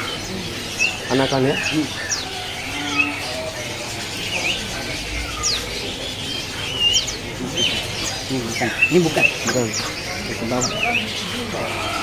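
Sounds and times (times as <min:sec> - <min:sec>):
songbirds chirping and whistling: 0:00.0 - 0:12.0.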